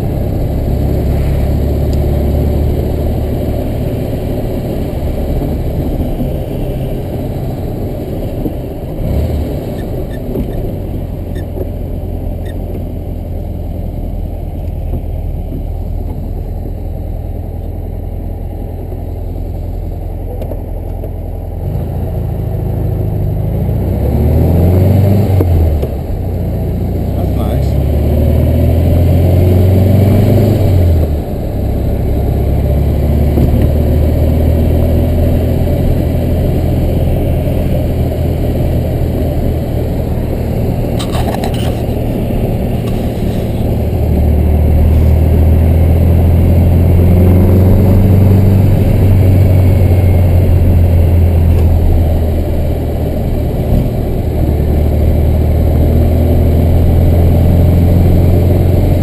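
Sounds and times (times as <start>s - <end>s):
car engine humming: 0.0s - 59.0s.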